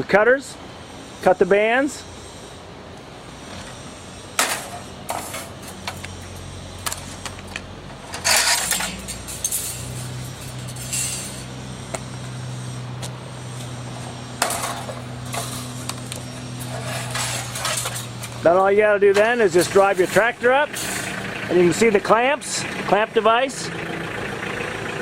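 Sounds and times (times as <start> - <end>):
tractor engine idling: 0.7 - 25.0.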